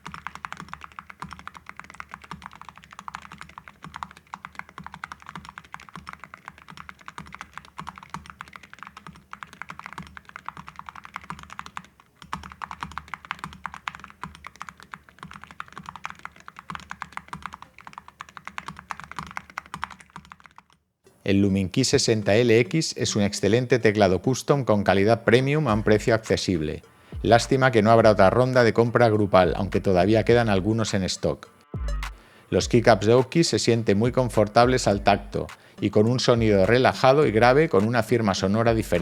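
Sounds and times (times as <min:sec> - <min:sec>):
fast keyboard typing: 0:00.0 - 0:20.8, 0:24.8 - 0:31.4, 0:32.6 - 0:39.0.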